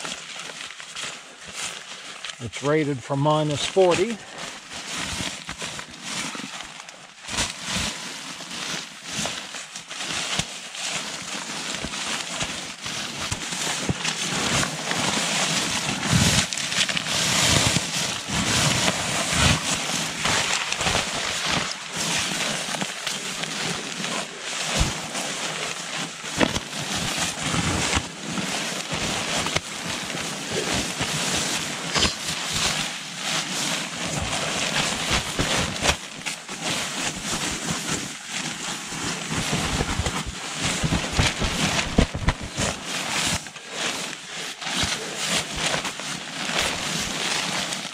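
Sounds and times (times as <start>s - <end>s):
nylon sleeping bag rustling: 0.0s - 2.6s, 3.5s - 47.9s.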